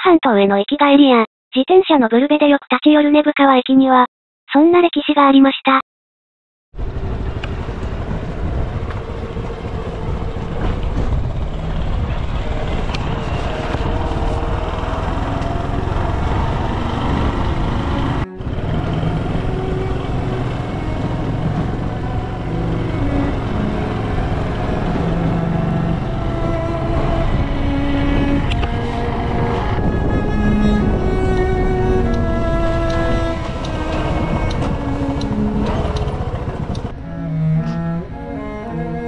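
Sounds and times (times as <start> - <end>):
small motorcycle engine running: 6.8 - 39.0
wind and road noise: 6.8 - 39.0.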